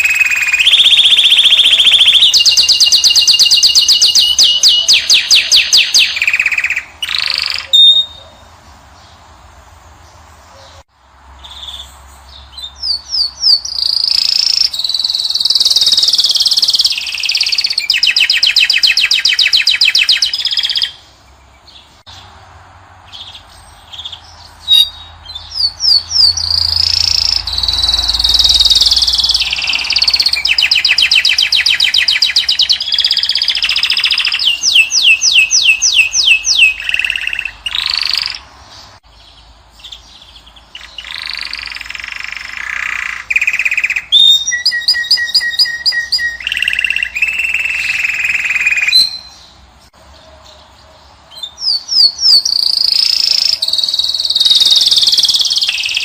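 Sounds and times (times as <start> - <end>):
finch singing trills and whistles: 0.0 - 8.5, 11.4 - 22.2, 23.1 - 49.6, 50.2 - 56.0.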